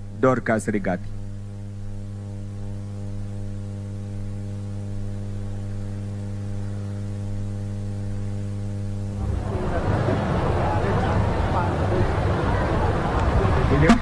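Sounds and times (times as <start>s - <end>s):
loudspeaker mains hum: 0.0s - 14.0s.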